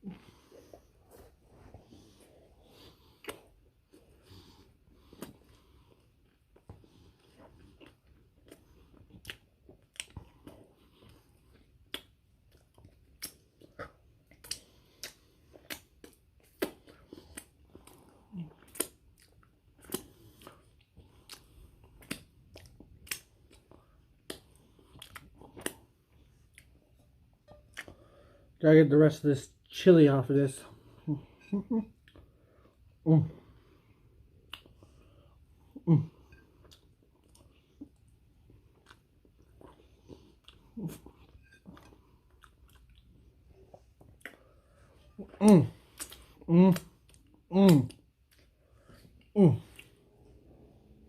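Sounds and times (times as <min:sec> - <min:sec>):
open-mouth chewing smacks: 0:00.1 - 0:27.1, 0:34.4 - 0:35.0, 0:36.3 - 0:50.3.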